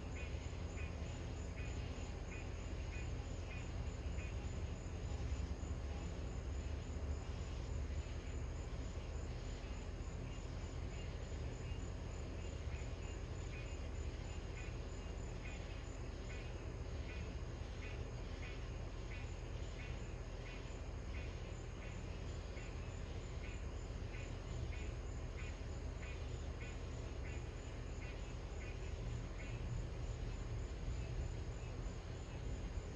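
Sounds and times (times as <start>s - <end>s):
insects chirping: 0.0s - 32.9s.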